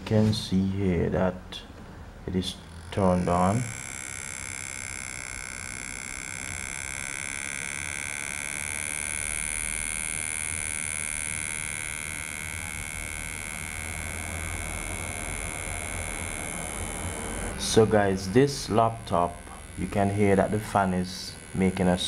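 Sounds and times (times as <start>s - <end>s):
laptop fan whining: 2.0s - 22.0s.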